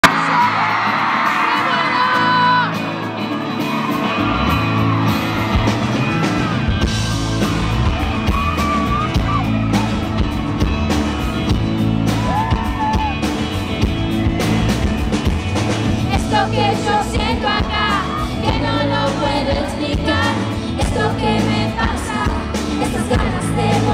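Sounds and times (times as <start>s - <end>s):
crowd screaming and whooping: 0.0s - 19.2s
live pop-rock band playing: 0.0s - 23.9s.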